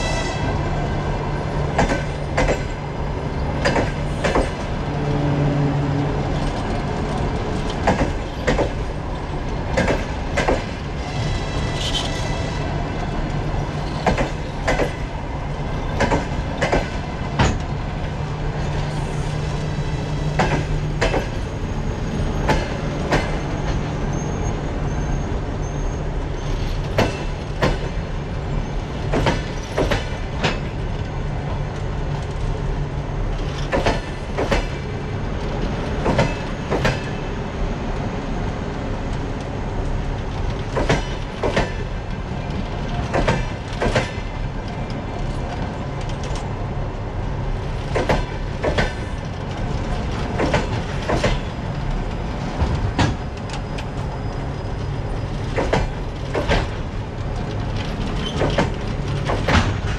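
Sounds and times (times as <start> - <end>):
train coaches rumbling: 0.0 - 59.9
wheels clacking over rail joints: 1.6 - 24.1, 26.3 - 32.5, 33.3 - 37.3, 39.4 - 46.5, 47.6 - 59.9.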